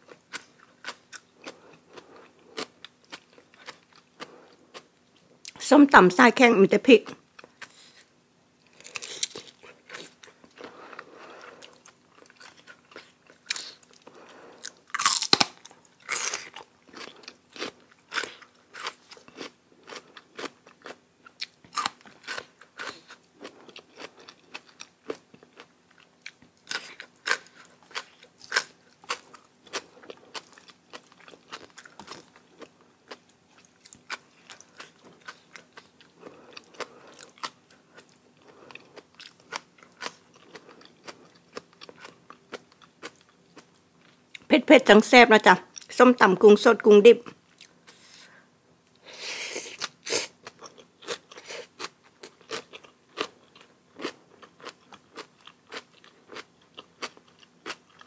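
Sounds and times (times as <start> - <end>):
person chewing crisp food: 0.0 - 5.6, 7.3 - 44.5, 47.2 - 58.0.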